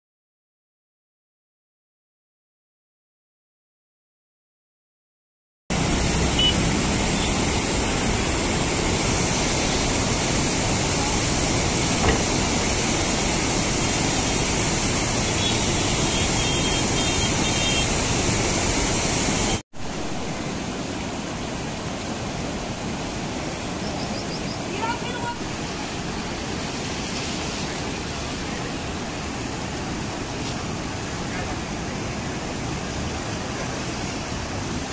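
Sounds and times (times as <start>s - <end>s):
rushing floodwater: 5.7s - 34.9s.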